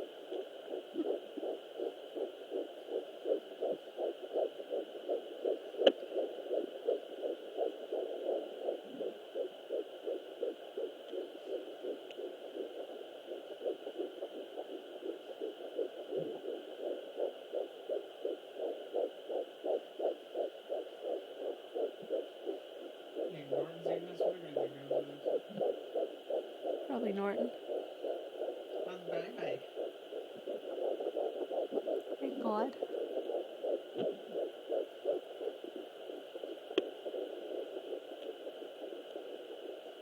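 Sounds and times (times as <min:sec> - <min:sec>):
fetal heartbeat on doppler: 0:00.0 - 0:40.0.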